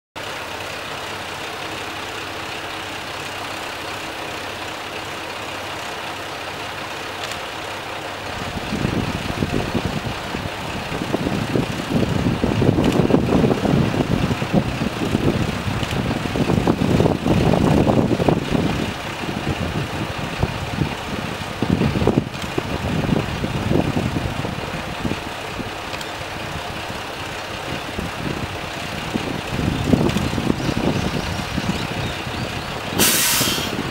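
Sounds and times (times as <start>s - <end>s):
diesel railcar engine idling: 0.2s - 33.9s.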